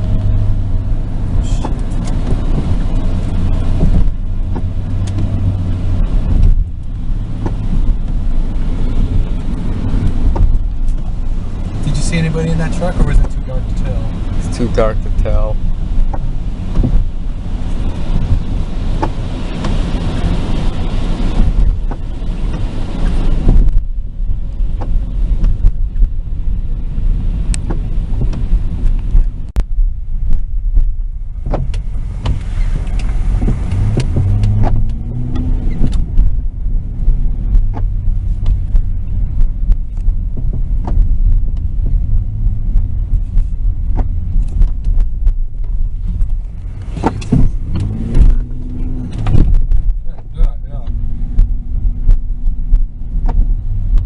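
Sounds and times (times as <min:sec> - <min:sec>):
car cabin road rumble: 0:00.0 - 0:54.0
car engine: 0:00.0 - 0:54.0.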